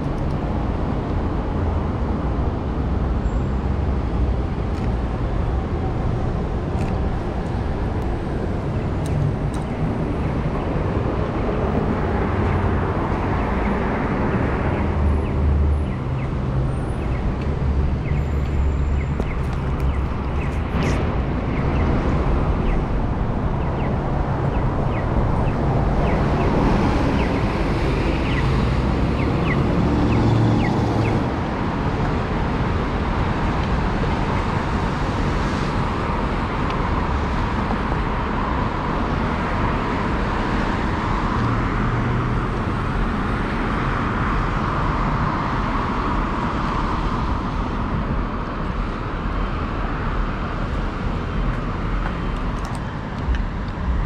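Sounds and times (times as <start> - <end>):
cars passing at an intersection: 0.0 - 54.0.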